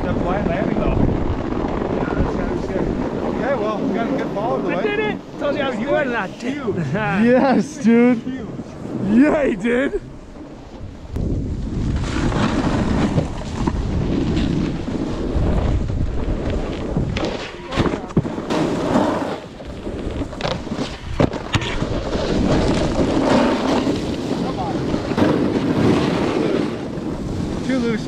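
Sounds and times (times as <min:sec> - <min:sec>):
wind buffeting microphone: 0:00.0 - 0:18.9, 0:19.5 - 0:28.0
snowboard scraping across snow: 0:02.3 - 0:28.0.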